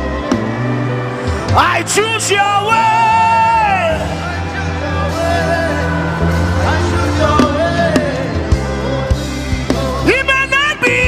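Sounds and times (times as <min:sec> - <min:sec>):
bass and keyboard chords: 0:00.0 - 0:11.0.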